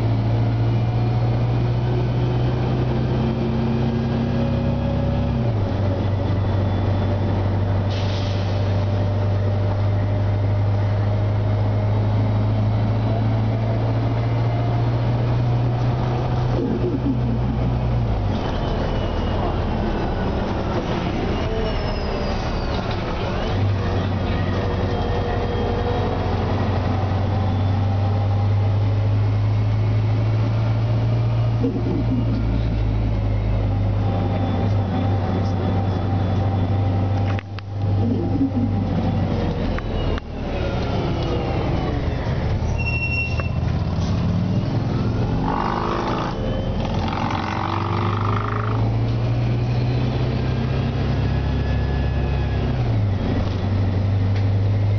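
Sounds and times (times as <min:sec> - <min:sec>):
bus engine drone from cabin: 0:00.0 - 0:54.9.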